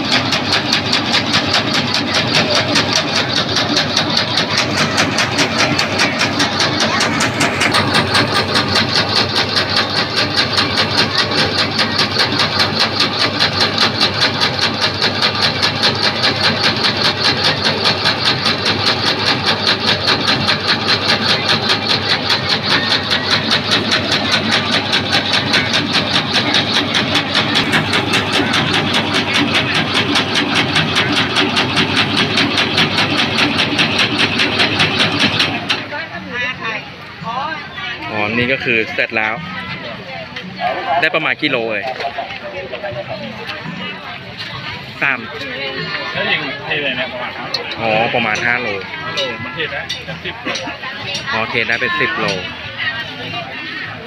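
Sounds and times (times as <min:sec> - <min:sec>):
meat grinder motor pulsing: 0:00.0 - 0:36.2, 0:43.4 - 0:53.2.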